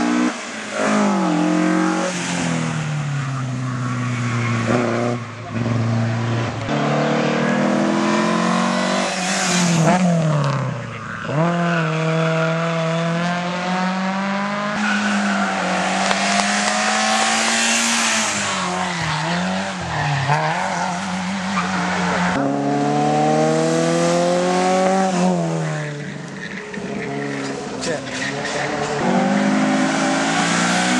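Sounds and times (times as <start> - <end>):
race car engines revving: 0.0 - 30.9.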